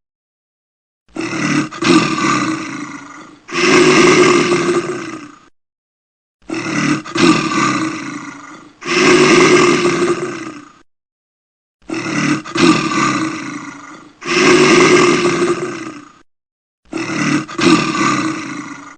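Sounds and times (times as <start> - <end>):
large animal deep calls: 1.1 - 5.5, 6.4 - 10.8, 11.8 - 16.2, 16.9 - 18.9.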